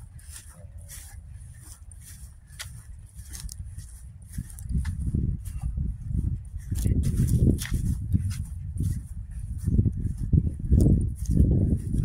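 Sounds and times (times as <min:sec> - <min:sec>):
footsteps on frosty grass: 0:00.0 - 0:12.0
wind buffeting microphone: 0:00.0 - 0:12.0.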